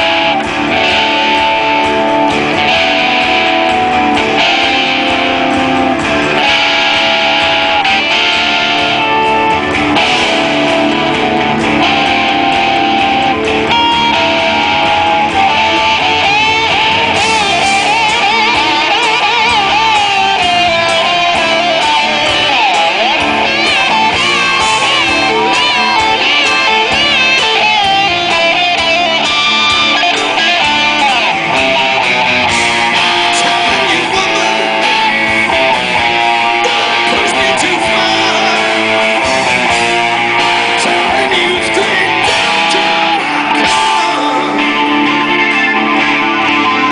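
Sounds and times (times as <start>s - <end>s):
electric guitar solo: 0.0s - 46.9s
rock band playing live: 0.0s - 46.9s.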